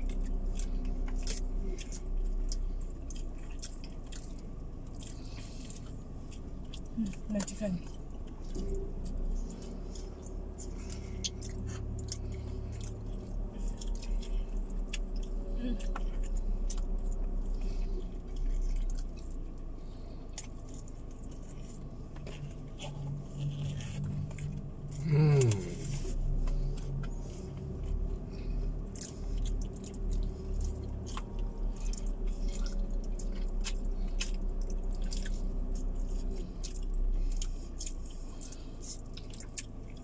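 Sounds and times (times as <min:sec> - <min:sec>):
low steady hum: 0:00.0 - 0:40.0
people chewing: 0:00.0 - 0:40.0.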